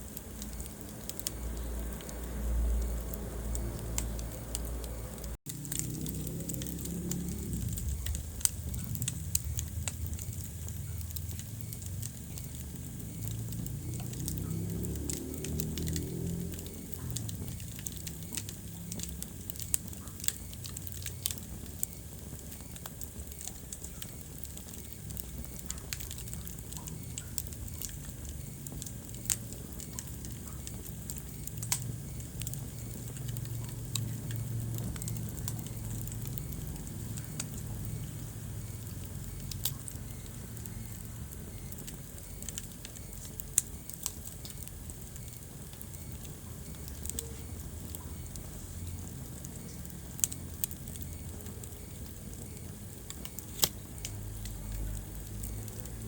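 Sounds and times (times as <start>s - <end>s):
fire pops: 0.0s - 56.0s
low steady rumble: 0.0s - 56.0s
wood fire crackling: 0.0s - 56.0s.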